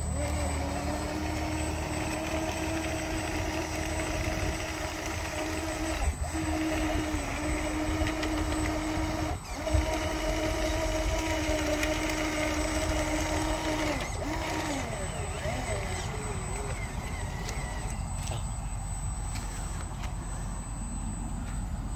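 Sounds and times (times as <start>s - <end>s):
electric motor and gearbox whine: 0.0s - 21.9s.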